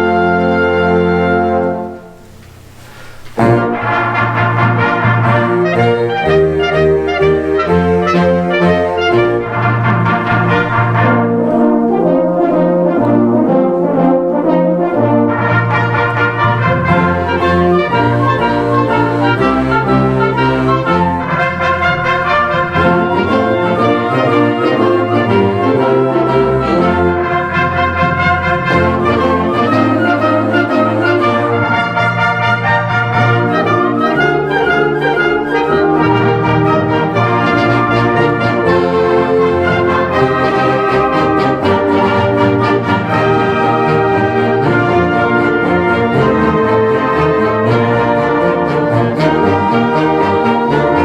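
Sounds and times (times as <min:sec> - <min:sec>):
trumpets and trombones: 0:00.0 - 0:51.0
concert band playing: 0:02.9 - 0:51.0.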